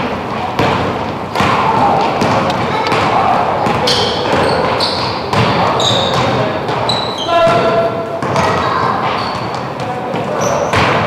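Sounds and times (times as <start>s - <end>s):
basketball bouncing on court: 0.1s - 11.0s
shoes squeaking: 2.0s - 11.0s.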